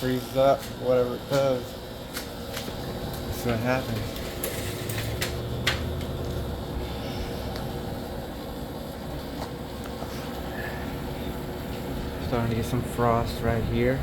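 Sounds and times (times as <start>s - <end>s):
air conditioner hum and airflow: 0.0s - 14.0s.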